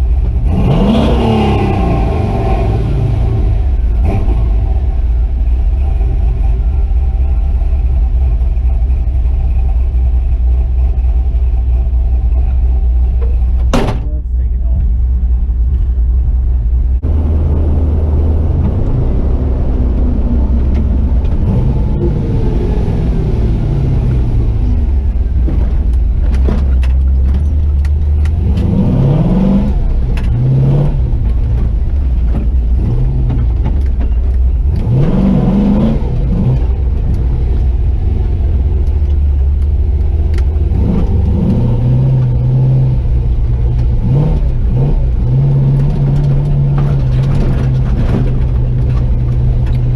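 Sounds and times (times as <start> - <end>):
truck engine rumbling and revving: 0.0 - 49.9.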